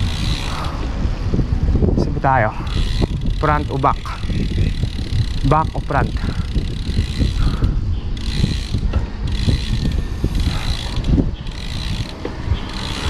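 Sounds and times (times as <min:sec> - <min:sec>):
bicycle freehub ratchet buzzing: 0:00.0 - 0:01.7, 0:02.4 - 0:13.0
wind and road rumble: 0:00.0 - 0:13.0.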